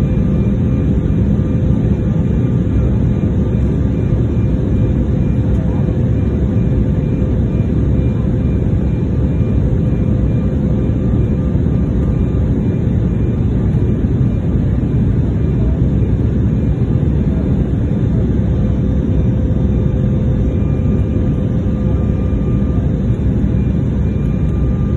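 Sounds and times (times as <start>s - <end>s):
airliner engines and rushing air: 0.0s - 24.9s
faint constant whine: 0.0s - 24.9s.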